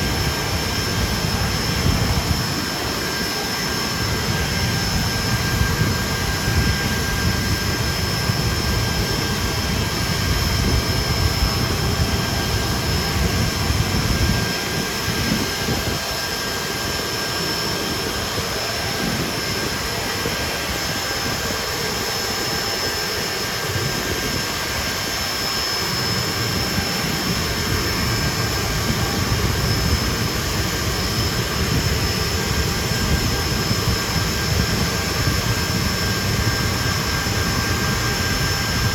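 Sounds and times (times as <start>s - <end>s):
high whine of jet engines: 0.0s - 38.9s.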